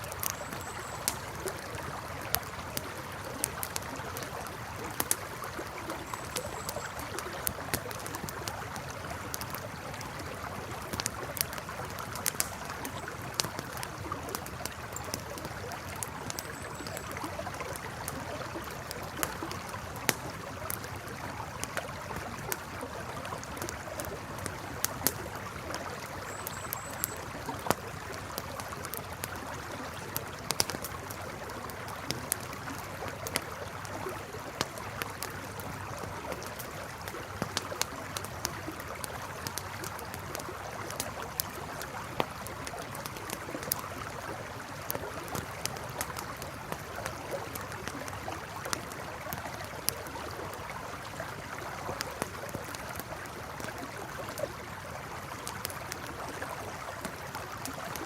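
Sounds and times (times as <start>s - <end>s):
campfire crackling: 0.0s - 58.0s
river flowing: 0.0s - 58.0s.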